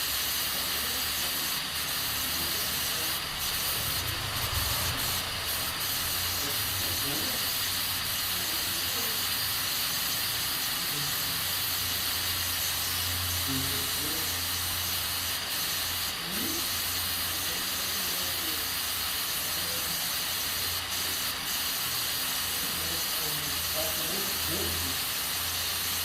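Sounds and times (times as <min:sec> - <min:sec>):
pressure cooker hissing: 0:00.0 - 0:26.0.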